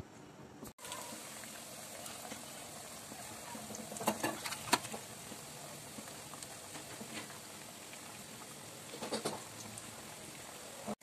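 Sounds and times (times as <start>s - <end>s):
deep frying sizzle: 0.0s - 11.0s
oil crackles: 0.8s - 10.6s.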